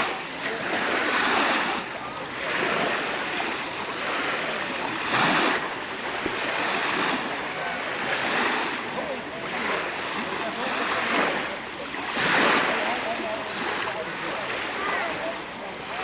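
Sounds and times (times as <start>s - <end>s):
small waves washing onto shore: 0.0s - 16.0s.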